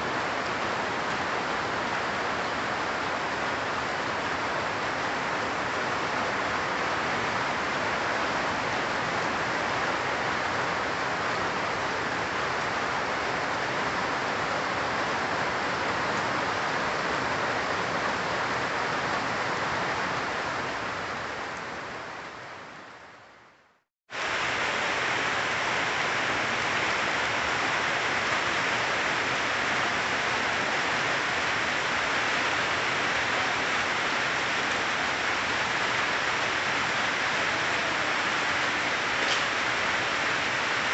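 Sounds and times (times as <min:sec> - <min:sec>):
rain falling on leafy trees: 0:00.0 - 0:40.9.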